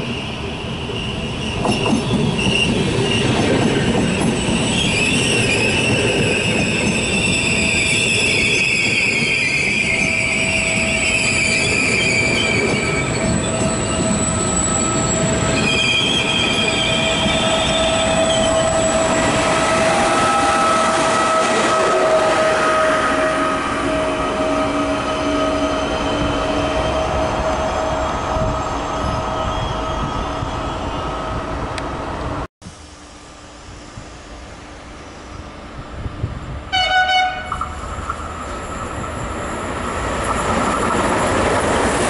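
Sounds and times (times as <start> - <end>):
train wheels squealing: 0.0 - 31.7, 37.5 - 42.0
locomotive whine: 0.0 - 42.0
train rumble: 0.0 - 42.0.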